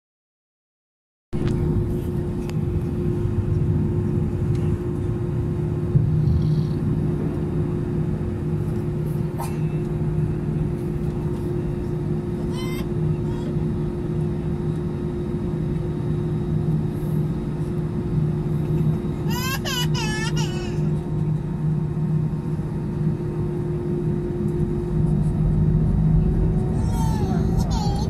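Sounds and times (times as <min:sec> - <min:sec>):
jet engine drone in cabin: 0:01.4 - 0:28.0.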